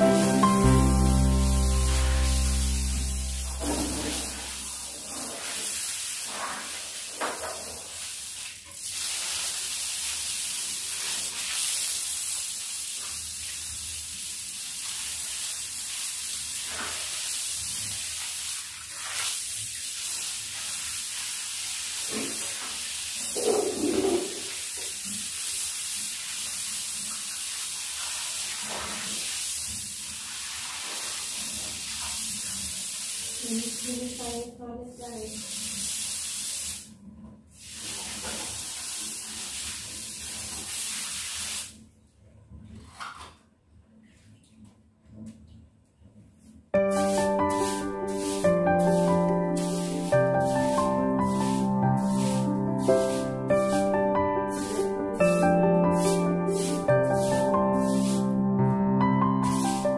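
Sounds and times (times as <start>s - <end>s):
water running from hose: 0.0s - 36.9s, 37.6s - 41.8s, 46.8s - 58.4s, 59.4s - 59.9s.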